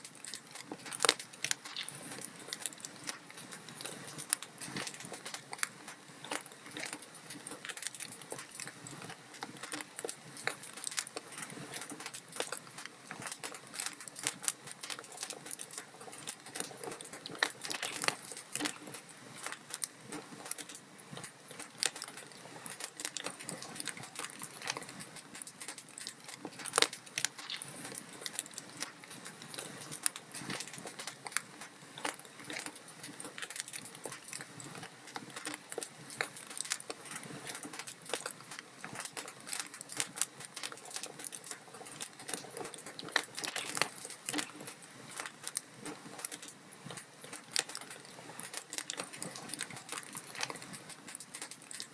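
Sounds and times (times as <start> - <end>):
log fire crackling: 0.0 - 51.9.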